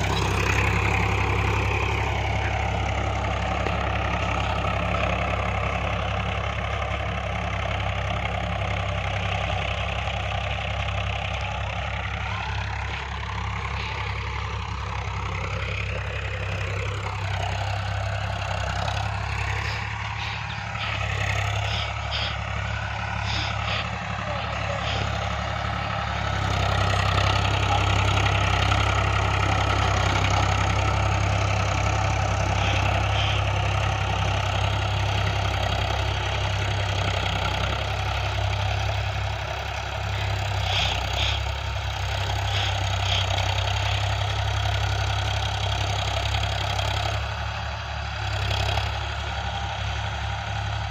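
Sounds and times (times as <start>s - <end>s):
rotavator churning: 0.0s - 9.5s, 10.2s - 47.0s
tractor engine running: 0.0s - 50.9s.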